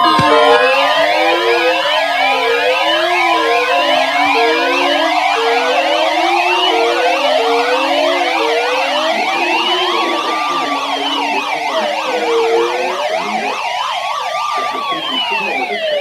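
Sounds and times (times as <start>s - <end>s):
low warbling siren tone: 0.0s - 16.0s
wailing sirens: 0.0s - 16.0s
yelping siren sweeps: 0.0s - 16.0s.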